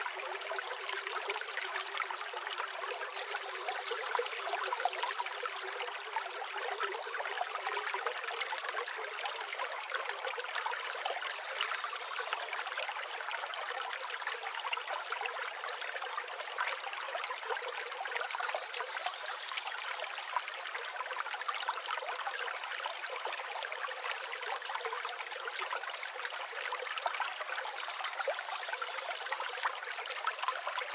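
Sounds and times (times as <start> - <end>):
stream trickling: 0.0 - 30.9.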